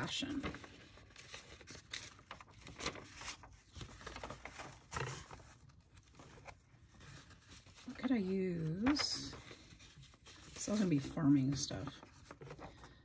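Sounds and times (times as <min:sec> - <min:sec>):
paper pages rustling: 0:00.0 - 0:13.0.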